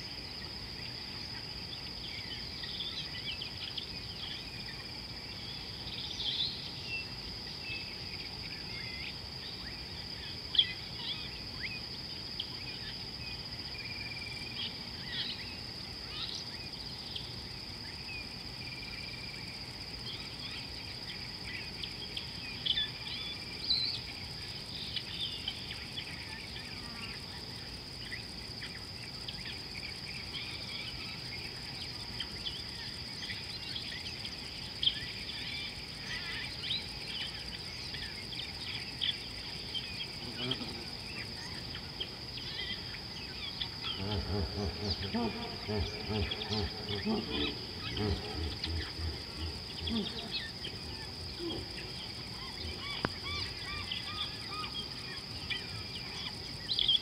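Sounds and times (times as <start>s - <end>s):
high-pitched insect trill: 0.0s - 57.0s.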